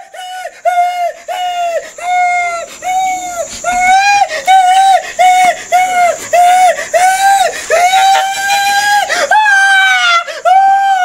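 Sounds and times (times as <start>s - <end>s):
man wailing and sobbing: 0.0s - 11.0s.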